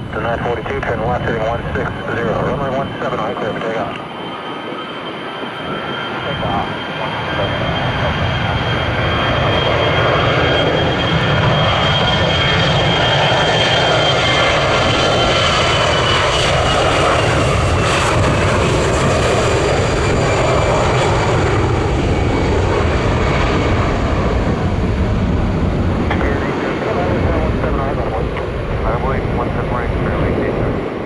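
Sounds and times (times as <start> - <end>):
jet airliner engine rumble: 0.0 - 31.0.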